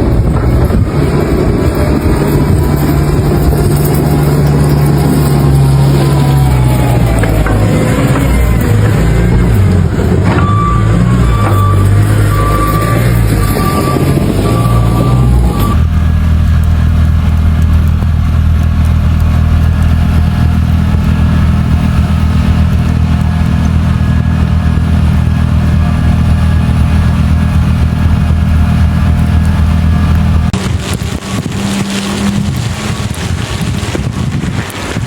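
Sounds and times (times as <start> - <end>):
engine running: 0.0 - 35.0
wind noise on microphone: 0.0 - 35.0.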